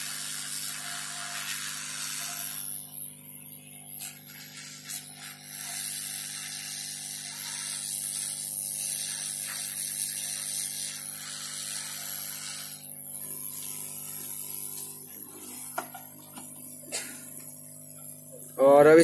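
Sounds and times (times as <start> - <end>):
hot air gun hissing: 0.0 - 19.0.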